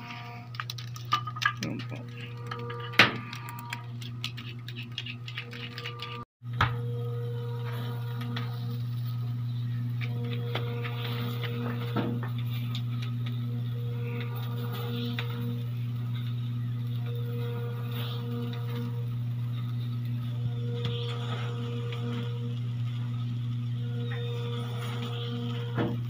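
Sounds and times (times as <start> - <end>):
charcoal crackling and popping: 0.0 - 26.0
rotisserie motor hum: 0.0 - 26.0.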